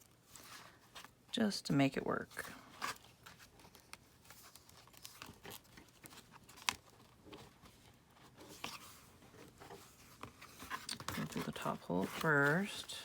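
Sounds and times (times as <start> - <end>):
paper rustling: 2.3 - 13.0.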